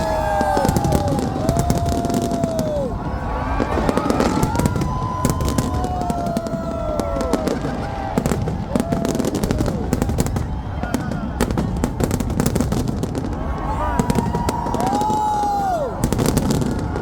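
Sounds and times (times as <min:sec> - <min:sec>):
fireworks popping and crackling: 0:00.0 - 0:17.0
fireworks whistling: 0:00.0 - 0:17.0.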